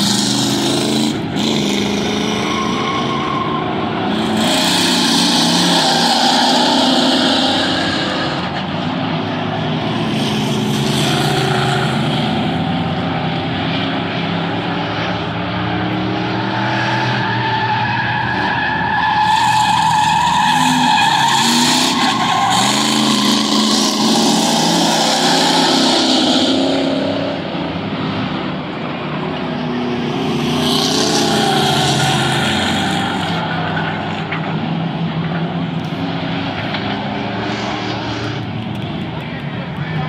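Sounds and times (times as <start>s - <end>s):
tire squeal: 0.0s - 28.1s, 29.3s - 38.8s
racing car engines revving: 0.0s - 40.0s.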